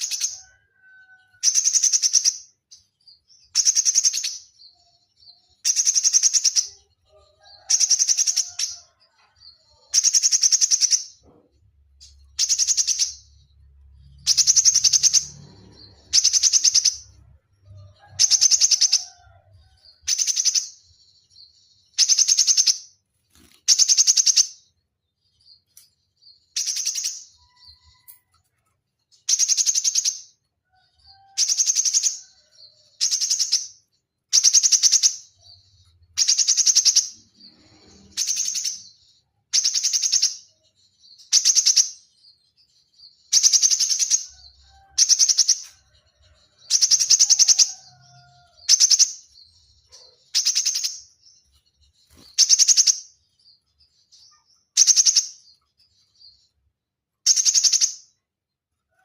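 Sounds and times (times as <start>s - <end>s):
bird singing rapid trills: 0.0s - 8.9s, 12.0s - 24.6s, 31.2s - 56.5s, 57.2s - 58.2s.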